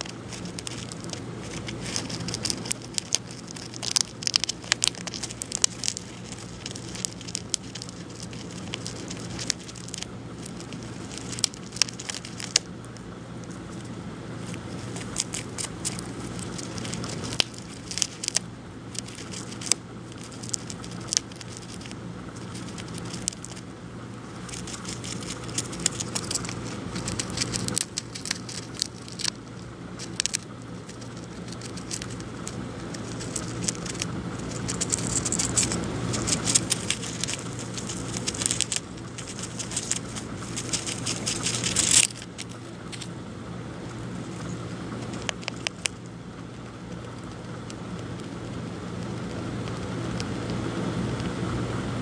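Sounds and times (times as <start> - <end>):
hamster chewing crunches: 0.0 - 52.0.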